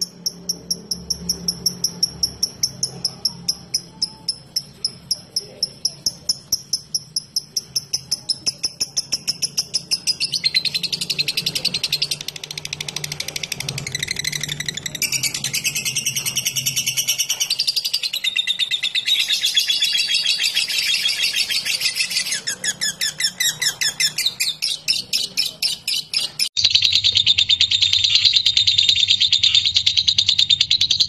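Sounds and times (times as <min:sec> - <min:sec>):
bird ticking chatter: 0:00.0 - 0:31.0.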